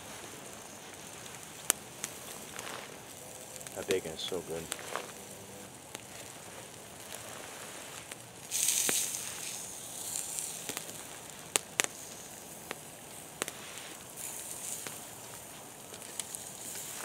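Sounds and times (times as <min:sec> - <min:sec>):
campfire crackling and popping: 0:00.0 - 0:17.0
fire hissing: 0:00.0 - 0:17.0.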